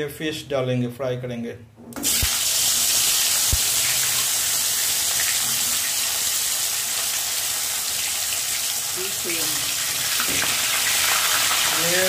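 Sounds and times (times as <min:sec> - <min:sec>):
fish sizzling in hot oil: 0:02.0 - 0:12.0.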